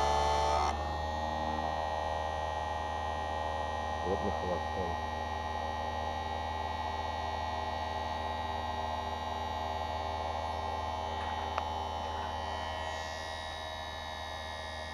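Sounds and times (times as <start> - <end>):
grinder motor humming: 0.0 - 14.9.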